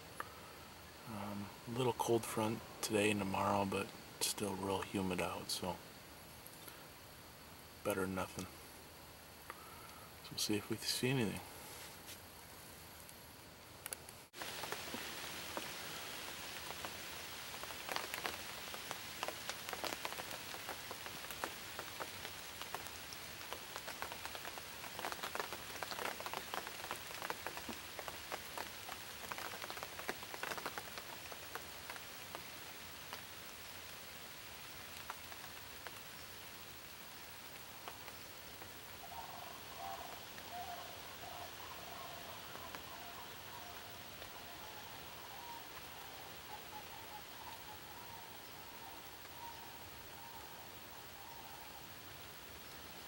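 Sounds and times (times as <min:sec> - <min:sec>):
rain drops ticking: 0:01.0 - 0:06.8, 0:13.8 - 0:53.0.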